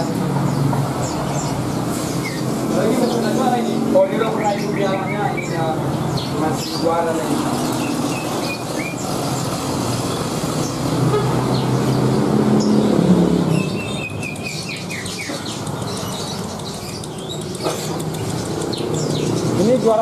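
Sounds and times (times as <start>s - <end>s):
cage birds chirping: 0.0s - 20.0s
passing vehicle engine hum: 0.0s - 20.0s.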